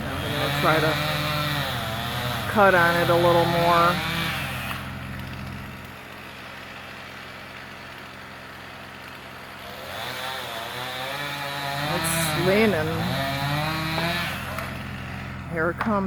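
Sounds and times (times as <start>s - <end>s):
engine idling: 0.0s - 9.7s, 11.9s - 16.0s.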